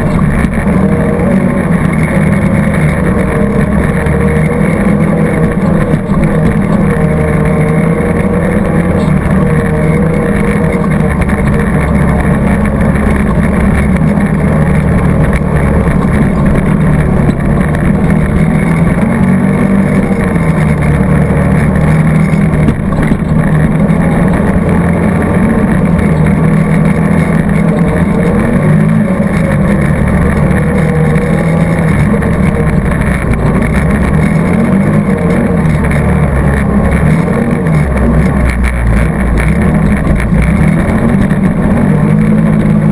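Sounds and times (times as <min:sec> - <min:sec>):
atv engine running hard: 0:00.0 - 0:42.9.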